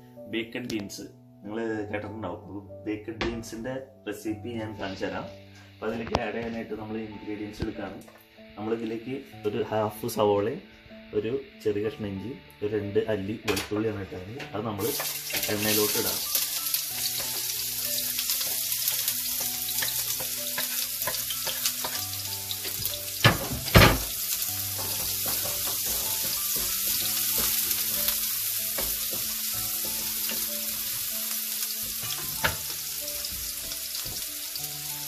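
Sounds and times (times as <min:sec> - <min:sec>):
onion and garlic sizzling in oil: 0:04.7 - 0:35.0.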